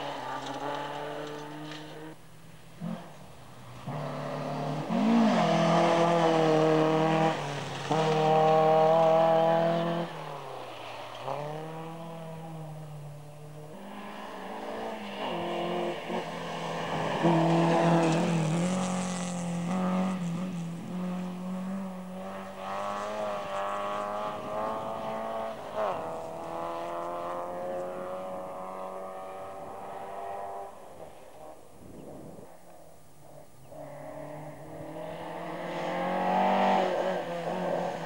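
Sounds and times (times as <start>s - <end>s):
rally car engine at full throttle: 0.0s - 38.0s.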